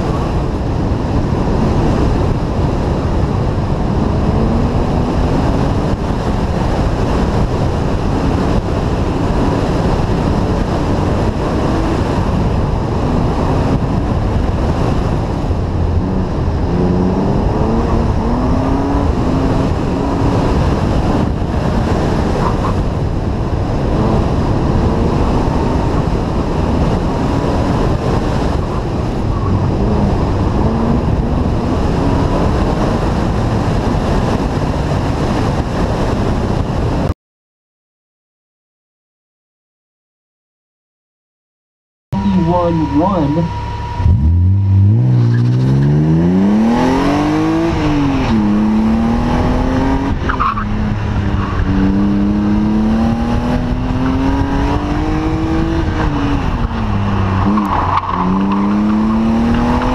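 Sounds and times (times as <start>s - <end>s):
car engine accelerating and slowing: 0.0s - 37.1s, 42.2s - 59.9s
wind rumble on microphone: 0.0s - 37.1s, 42.2s - 59.9s.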